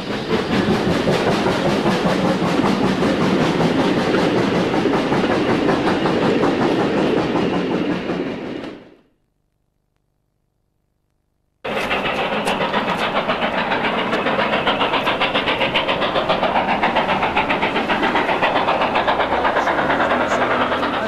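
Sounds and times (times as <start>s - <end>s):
steam locomotive exhaust beats: 0.0s - 9.0s, 11.6s - 21.0s.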